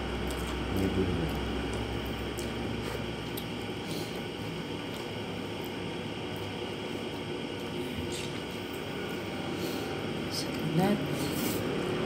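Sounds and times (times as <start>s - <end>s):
room hiss and hum: 0.0s - 12.0s.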